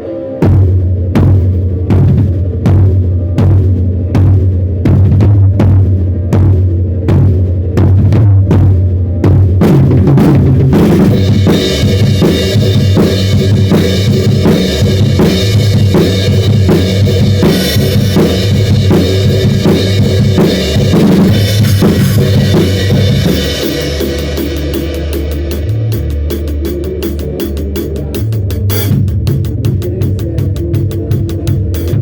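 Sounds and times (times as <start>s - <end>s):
drum kit playing a beat: 0.0s - 32.0s.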